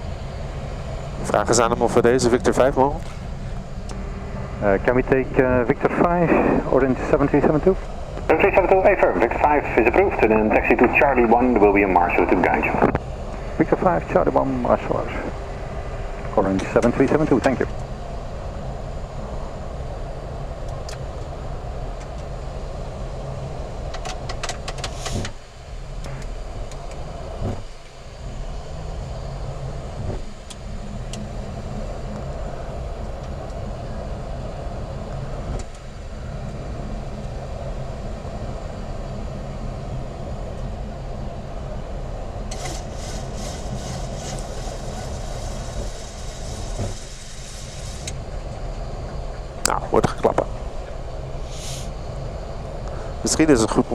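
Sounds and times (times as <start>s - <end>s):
airplane cockpit engine noise: 0.0s - 53.9s.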